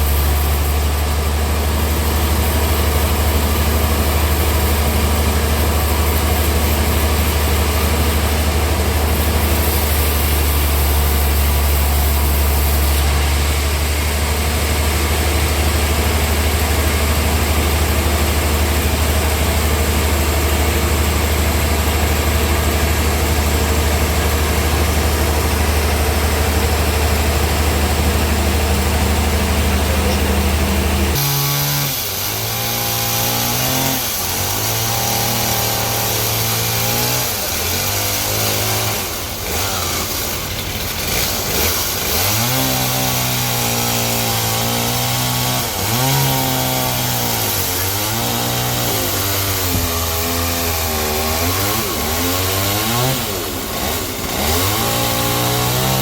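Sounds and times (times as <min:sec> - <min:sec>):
saw engine cutting wood: 0:00.0 - 0:56.0.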